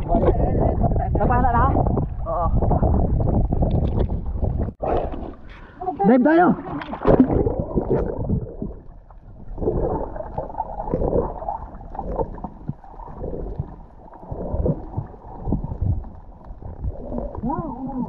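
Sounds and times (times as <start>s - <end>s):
muffled underwater rushing and gurgling: 0.0s - 5.8s, 6.6s - 18.0s.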